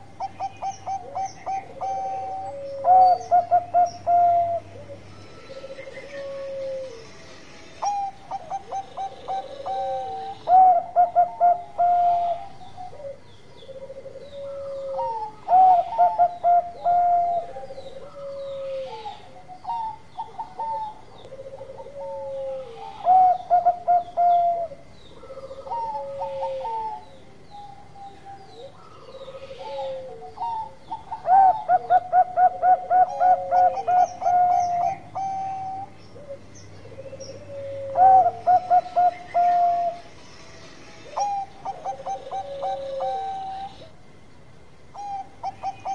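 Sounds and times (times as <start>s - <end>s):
dove cooing: 0.0s - 7.1s, 7.8s - 40.1s, 41.0s - 44.0s, 44.9s - 45.9s.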